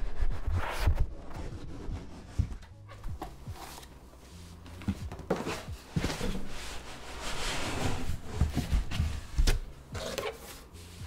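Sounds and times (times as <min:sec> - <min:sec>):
rubbing and sliding noise: 0:00.0 - 0:11.0.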